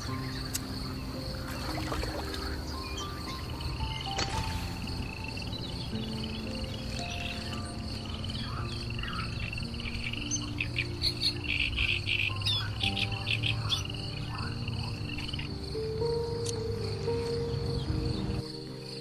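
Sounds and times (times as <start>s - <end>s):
insects trilling: 0.0s - 19.0s
soft music of low held notes: 0.0s - 19.0s.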